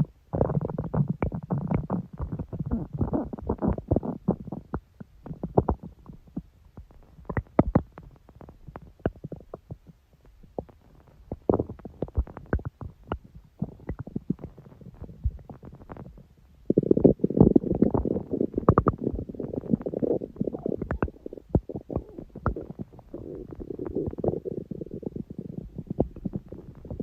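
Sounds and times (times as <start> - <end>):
stomach growling and gurgling: 0.0 - 27.0.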